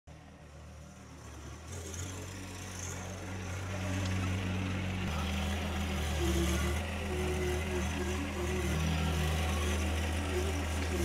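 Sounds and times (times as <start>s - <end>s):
tractor engine running: 0.1s - 11.0s.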